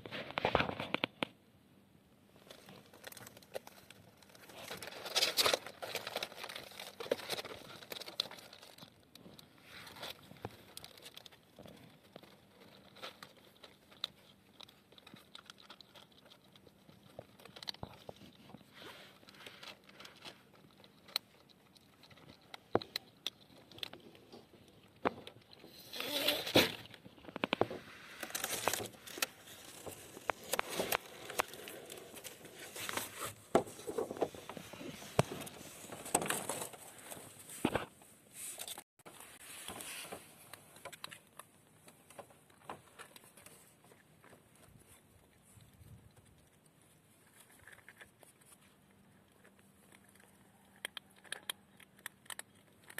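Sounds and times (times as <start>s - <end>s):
cardboard and paper crinkling: 2.4s - 52.9s.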